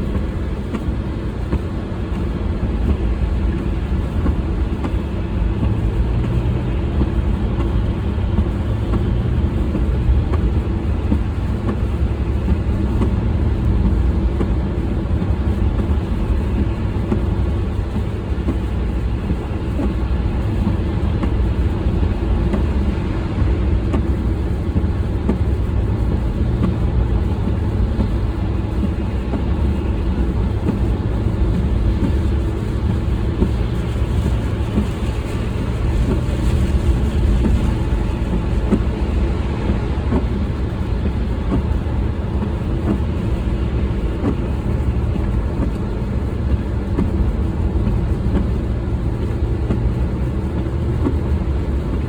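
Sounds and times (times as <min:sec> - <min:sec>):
vehicle road and engine rumble: 0:00.0 - 0:52.0.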